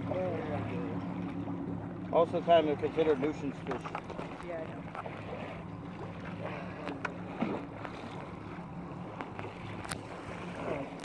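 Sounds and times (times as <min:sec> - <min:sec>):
light water splashes: 0:00.0 - 0:11.0.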